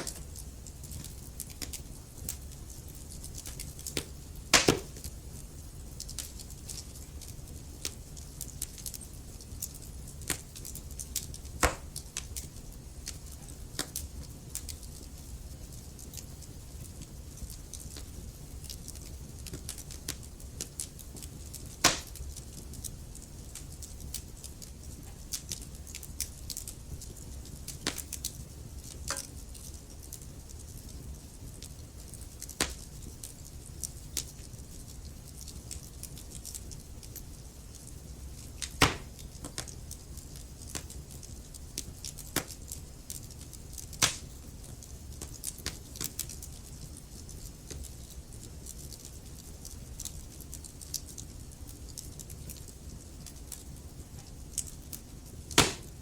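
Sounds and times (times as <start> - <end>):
fire crackles and pops: 0.0 - 56.0
low rumble of burning logs: 0.0 - 56.0.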